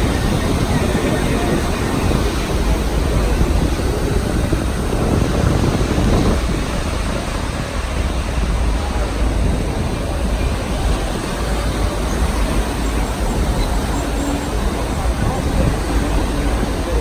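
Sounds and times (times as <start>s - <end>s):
moving train rumble: 0.0s - 17.0s.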